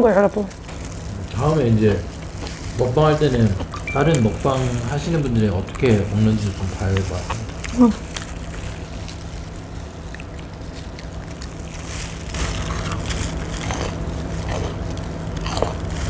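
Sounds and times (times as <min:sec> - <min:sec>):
crunching fried chicken: 0:00.0 - 0:16.0
steady low hum: 0:00.0 - 0:16.0.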